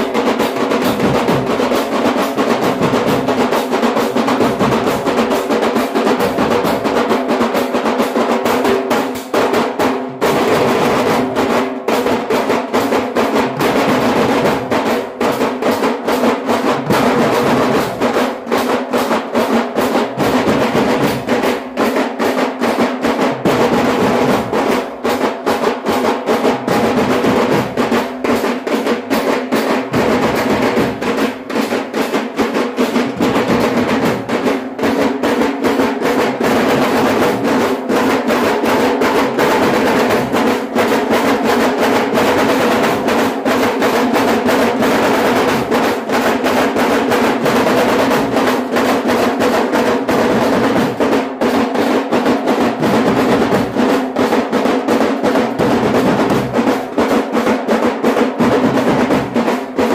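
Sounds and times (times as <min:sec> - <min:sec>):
rapid drum strokes and rolls: 0:00.0 - 0:59.9.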